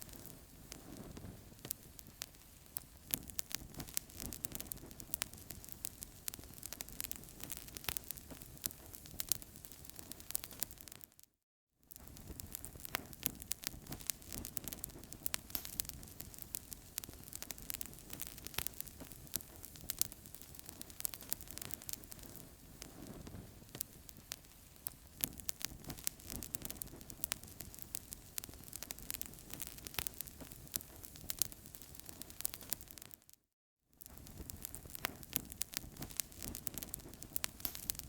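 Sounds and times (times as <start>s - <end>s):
low hiss of flames: 0.0s - 10.8s, 12.0s - 33.1s, 34.0s - 38.0s
wood fire crackling and popping: 0.0s - 11.2s, 11.9s - 33.4s, 34.0s - 38.0s.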